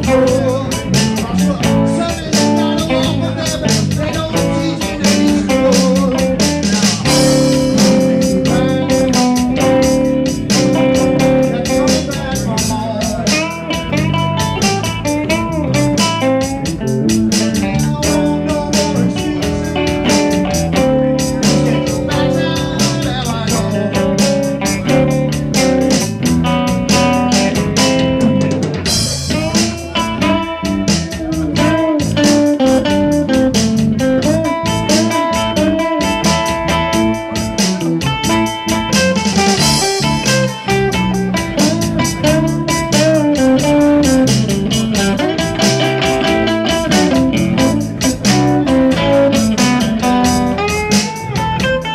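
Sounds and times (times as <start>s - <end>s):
live band playing: 0.0s - 51.9s.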